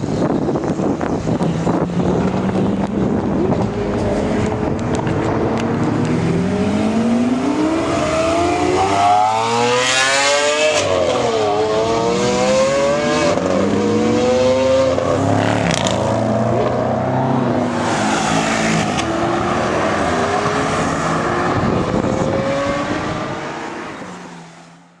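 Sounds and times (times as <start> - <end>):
sports car engine revving: 1.6 - 23.6.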